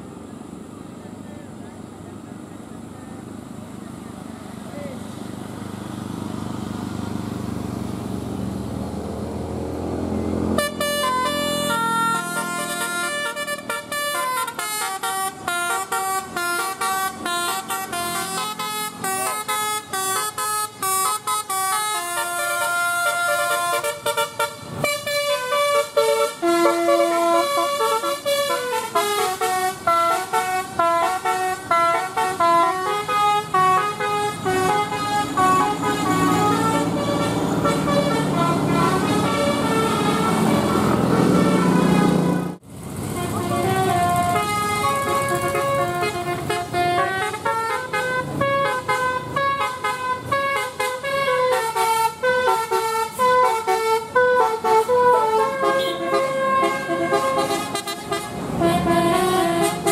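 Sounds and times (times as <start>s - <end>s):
bus engine rumble: 0.0s - 59.9s
multi-tone bus horn melody: 10.3s - 59.9s.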